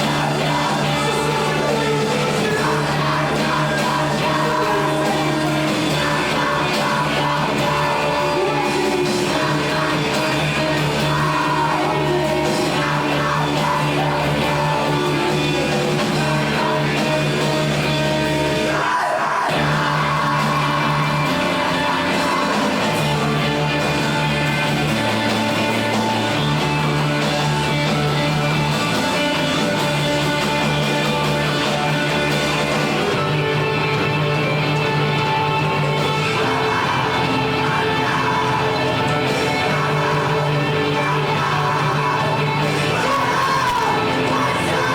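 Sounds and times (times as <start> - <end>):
rock song with singing: 0.0 - 44.9.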